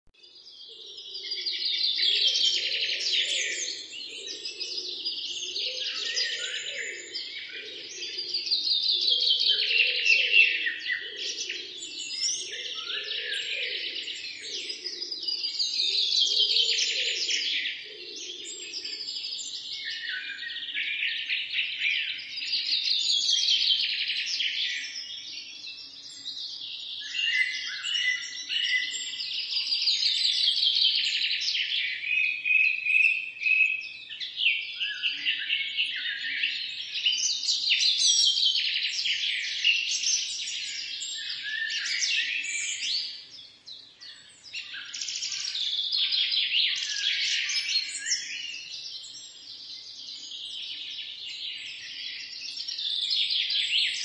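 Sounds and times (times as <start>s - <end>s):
songbirds singing: 0.1s - 54.0s.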